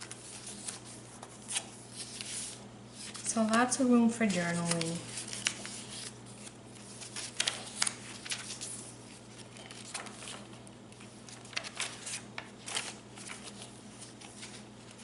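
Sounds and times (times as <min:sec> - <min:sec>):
paper crinkling: 0:00.0 - 0:15.0
paper pages rustling: 0:00.0 - 0:15.0.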